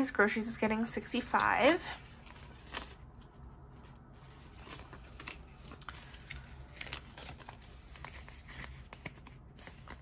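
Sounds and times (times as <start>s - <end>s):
banknotes crinkling: 1.0s - 10.0s.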